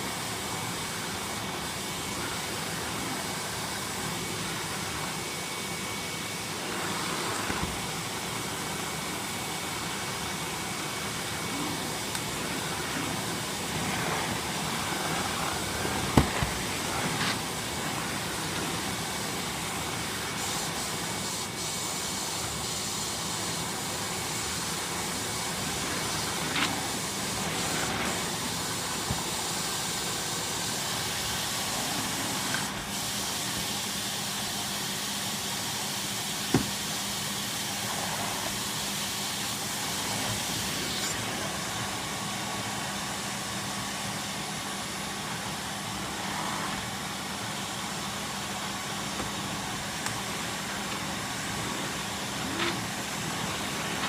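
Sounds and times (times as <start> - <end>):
vacuum cleaner hissing suction: 0.0 - 54.0.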